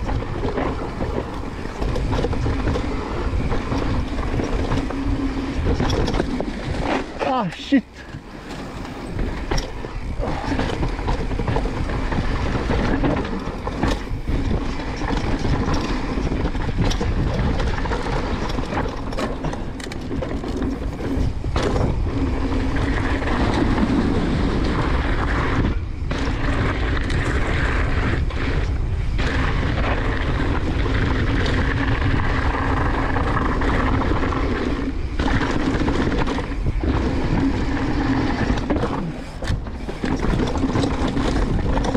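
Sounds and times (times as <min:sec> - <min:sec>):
bike rattling over rough ground: 0:00.0 - 0:41.9
bike tyres rolling: 0:00.0 - 0:41.9
wind rumble on microphone: 0:00.0 - 0:41.9.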